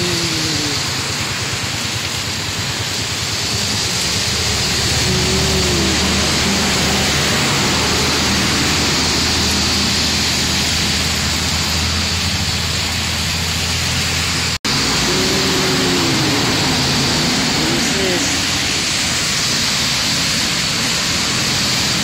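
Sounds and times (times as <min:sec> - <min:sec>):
heavy rain falling: 0:00.0 - 0:22.0
traffic on wet road: 0:00.0 - 0:22.0
vehicle engines running: 0:00.0 - 0:22.0.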